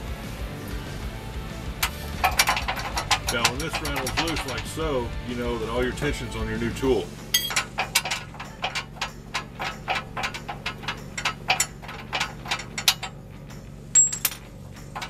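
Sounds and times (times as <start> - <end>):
rapid metallic clicking: 1.6 - 15.0.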